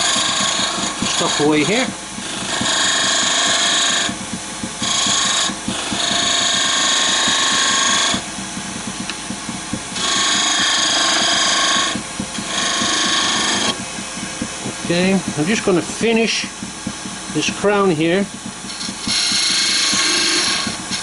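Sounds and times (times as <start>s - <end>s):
turning tool scraping wood: 0.0s - 21.0s
wood lathe running: 0.0s - 21.0s.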